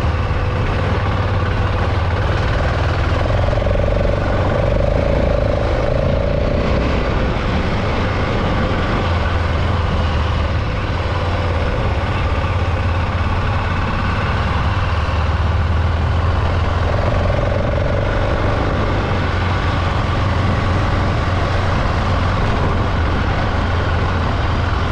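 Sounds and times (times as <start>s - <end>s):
motorcycle engine running: 0.0s - 24.9s
wind rush: 0.0s - 24.9s.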